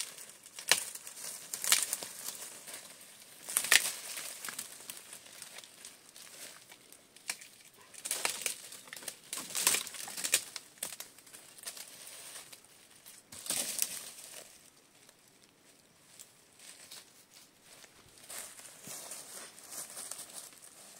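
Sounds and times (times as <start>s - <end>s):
tree branches rustling: 0.0s - 20.9s
twigs cracking: 0.0s - 20.9s.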